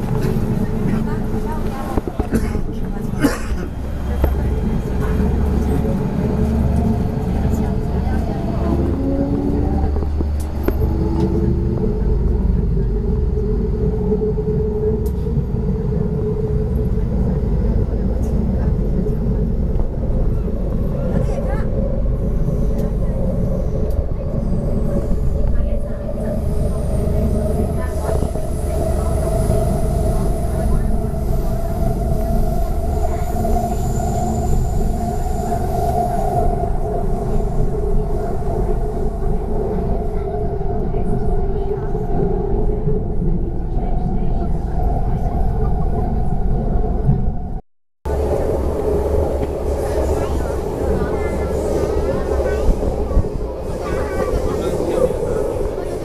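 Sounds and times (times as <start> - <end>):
sustained train whine: 0.0 - 56.0
wheels rumbling on track: 0.0 - 56.0.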